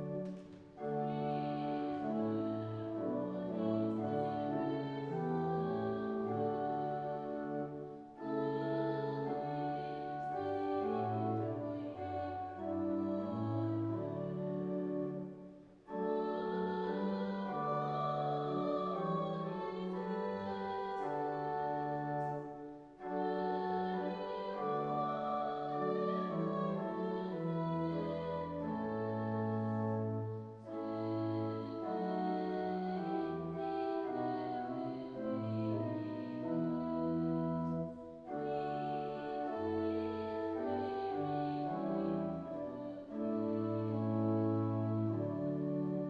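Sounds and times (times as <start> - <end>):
organ playing a hymn: 0.0 - 46.0.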